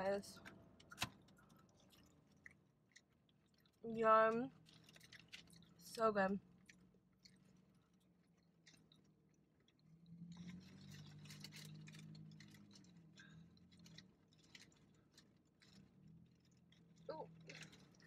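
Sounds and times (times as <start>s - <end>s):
faint rustling and clicking: 0.3s - 18.0s.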